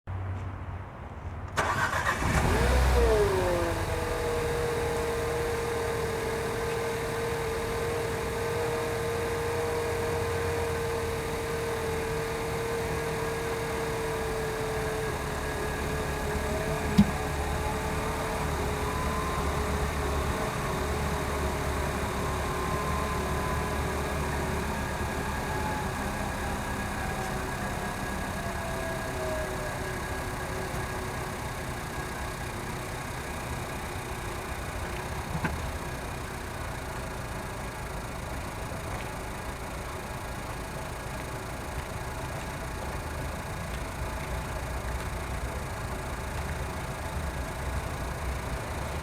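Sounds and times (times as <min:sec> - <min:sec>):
car engine starting and idling: 0:01.4 - 0:49.0.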